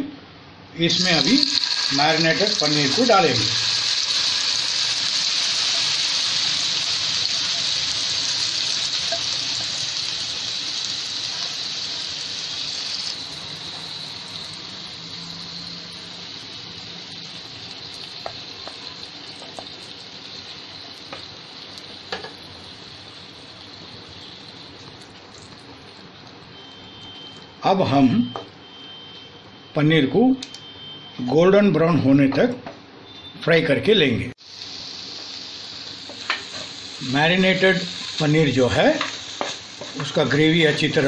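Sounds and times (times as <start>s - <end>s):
paneer sizzling in hot oil: 0.9s - 27.6s, 34.4s - 41.0s.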